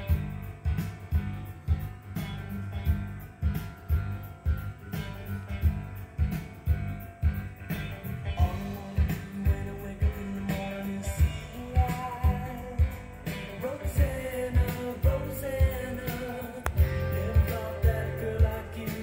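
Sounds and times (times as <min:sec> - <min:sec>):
song with singing and guitar: 0:00.0 - 0:19.0
steady bass beat: 0:00.0 - 0:19.0.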